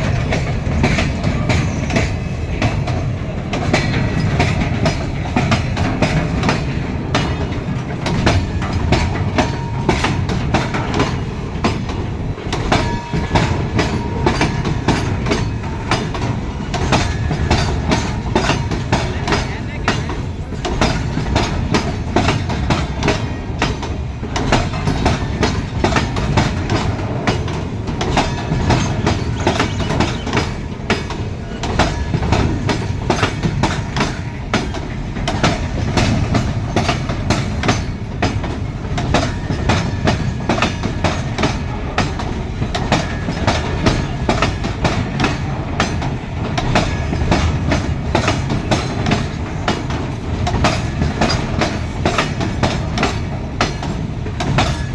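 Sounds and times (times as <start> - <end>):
train wheels clattering on rails: 0.0 - 54.9.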